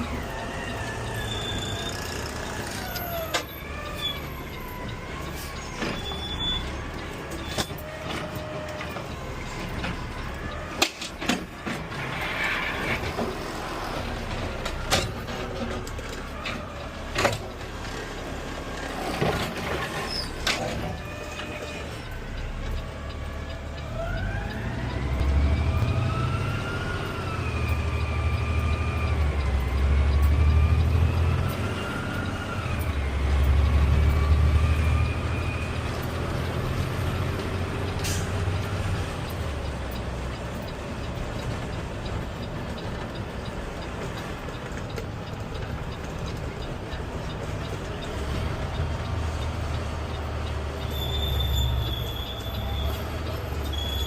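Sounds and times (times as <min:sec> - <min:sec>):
truck engine with whine: 0:00.0 - 0:54.0.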